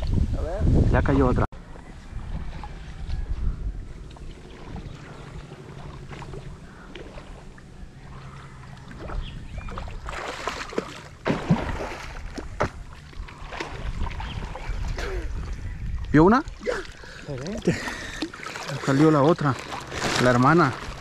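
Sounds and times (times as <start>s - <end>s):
river water splashing: 2.1s - 3.1s, 3.9s - 21.0s.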